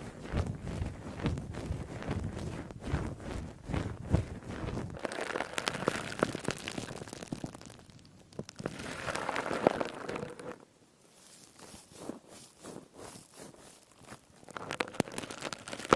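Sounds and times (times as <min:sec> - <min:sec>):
crispy sponge being squeezed: 0:00.0 - 0:15.9.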